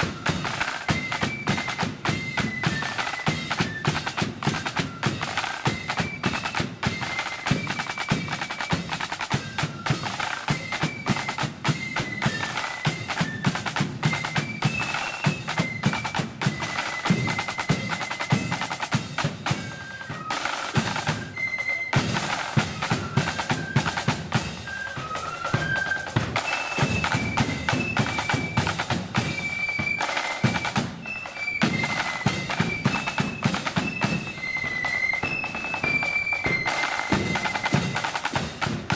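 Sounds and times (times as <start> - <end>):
flutes playing high melody: 0.0 - 38.9
snare drum rolls: 0.0 - 38.9.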